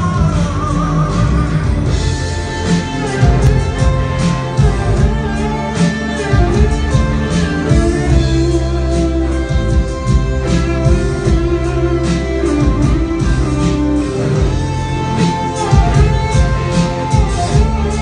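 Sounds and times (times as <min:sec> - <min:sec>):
bass guitar: 0:00.0 - 0:18.0
guitar chords: 0:00.0 - 0:18.0
live rock band playing: 0:00.0 - 0:18.0
steady drum beat: 0:00.0 - 0:18.0.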